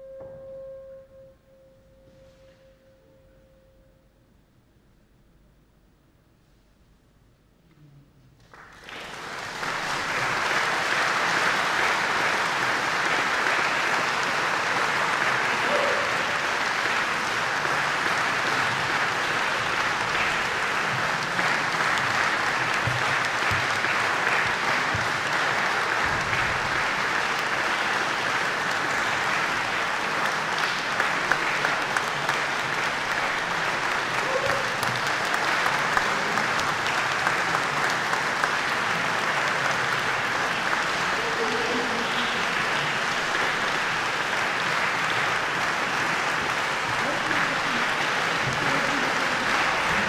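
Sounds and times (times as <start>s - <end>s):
audience applauding: 8.4s - 50.0s.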